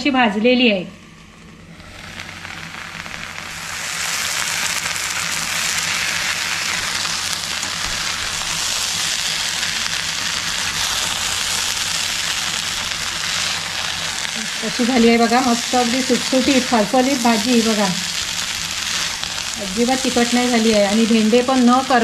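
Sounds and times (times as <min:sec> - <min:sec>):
vegetables sizzling in a pan: 0:01.0 - 0:22.0
spatula stirring in pan: 0:01.3 - 0:22.0.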